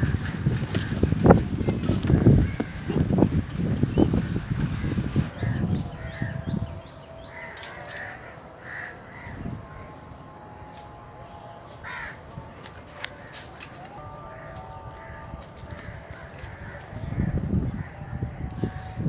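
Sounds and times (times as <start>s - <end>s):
crows cawing: 0.0s - 19.0s
low rumbling noise: 0.0s - 19.0s.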